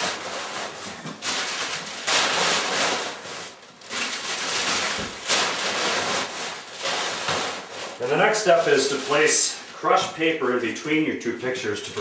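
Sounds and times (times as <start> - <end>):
packing paper rustling: 0.0 - 11.0.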